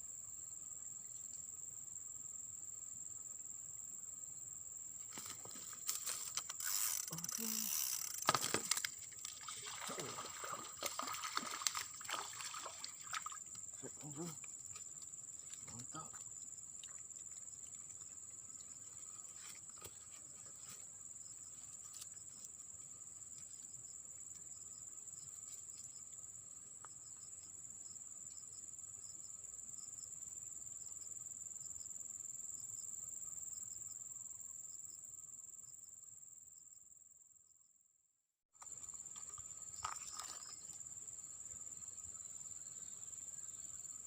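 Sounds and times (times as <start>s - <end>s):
insects droning: 0.0s - 37.8s, 38.6s - 44.0s.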